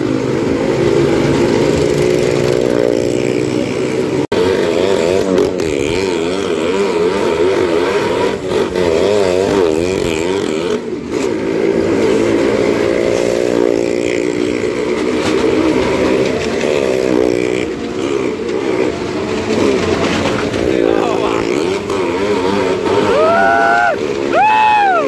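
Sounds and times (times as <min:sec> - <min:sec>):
car engines revving high: 0:00.0 - 0:25.0.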